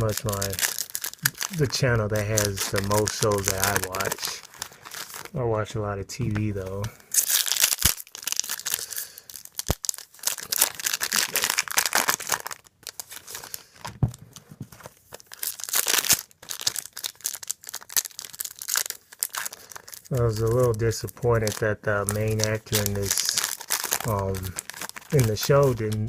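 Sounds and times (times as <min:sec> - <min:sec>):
cards and wrappers crinkling: 0:00.0 - 0:05.4, 0:06.2 - 0:26.0.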